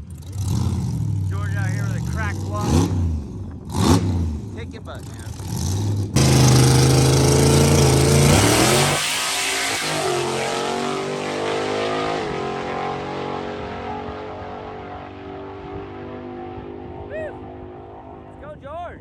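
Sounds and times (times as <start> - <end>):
drag car engine revving: 0.0 - 18.4.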